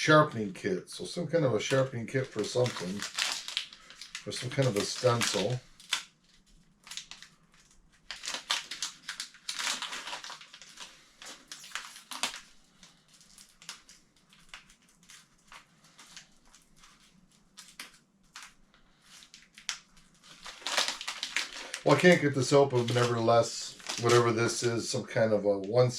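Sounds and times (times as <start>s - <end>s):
packaging crinkling and rustling: 1.4s - 25.0s.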